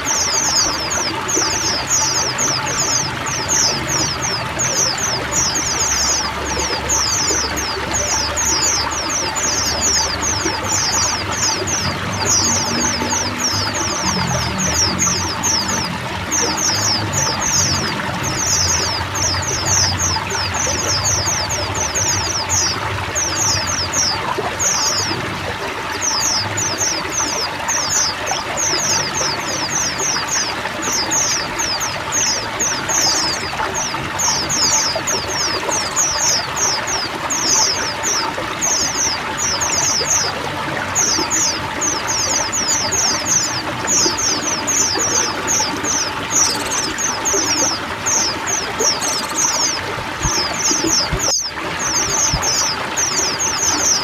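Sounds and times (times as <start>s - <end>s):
birds twittering trills: 0.0s - 54.0s
running water trickling: 0.0s - 54.0s.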